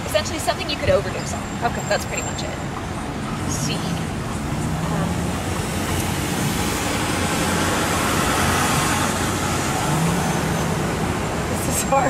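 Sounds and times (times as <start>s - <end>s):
city traffic and road noise: 0.0s - 12.0s.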